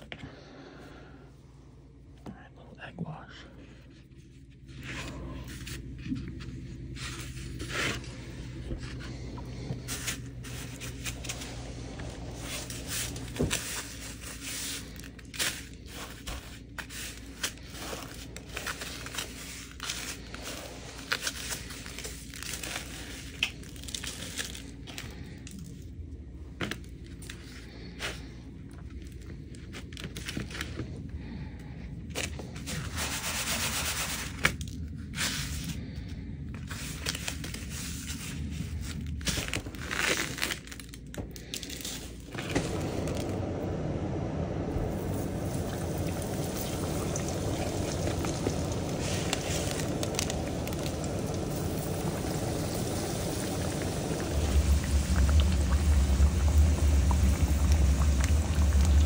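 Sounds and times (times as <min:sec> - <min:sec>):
steady low hum: 0:00.0 - 0:59.0
crunching of breadcrumbs: 0:04.3 - 0:43.4, 0:45.1 - 0:59.0.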